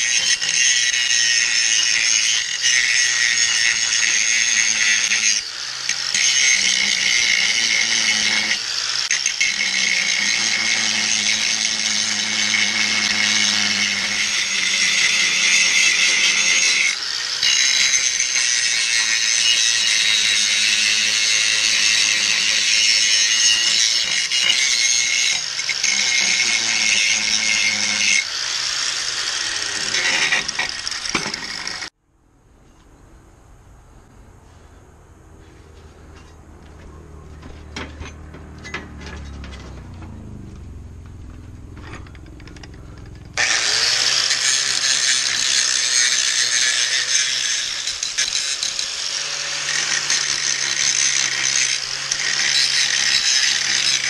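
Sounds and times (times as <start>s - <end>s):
angle grinder grinding steel: 0.0s - 31.9s, 35.8s - 54.0s.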